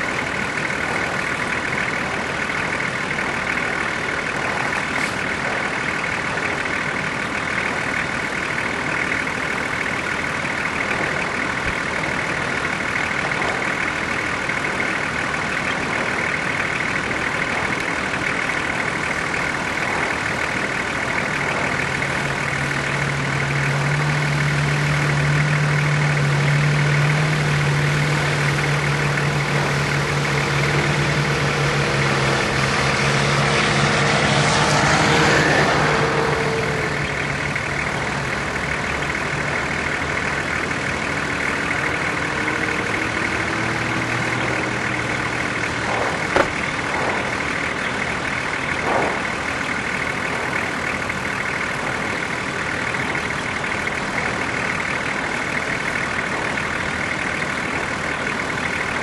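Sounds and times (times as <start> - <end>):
deep engine hum: 0.0 - 59.0
vehicle engine idling: 0.0 - 59.0.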